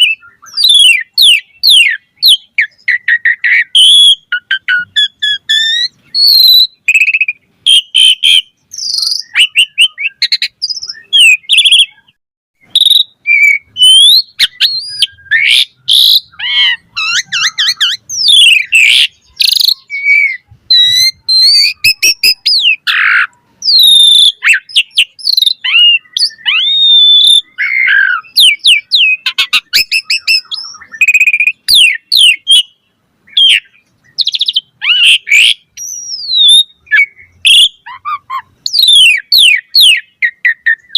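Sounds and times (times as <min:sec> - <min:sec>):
starling singing whistles and trills: 0:00.0 - 0:40.9.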